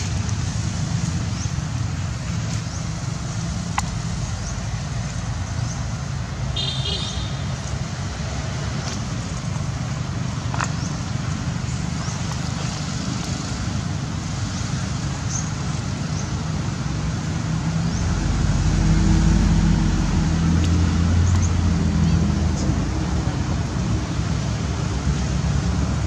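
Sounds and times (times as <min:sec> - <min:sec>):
road traffic noise: 0:00.0 - 0:26.0
vehicle engine rumbling: 0:00.0 - 0:26.0.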